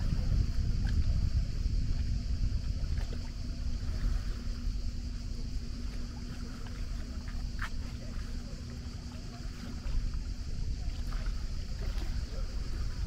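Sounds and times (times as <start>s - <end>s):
faint motor hum: 0.0s - 13.0s
low seaside rumble: 0.0s - 13.0s.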